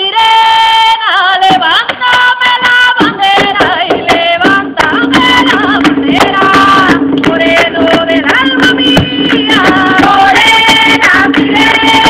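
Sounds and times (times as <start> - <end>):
high voice singing with vibrato: 0.0 - 12.0.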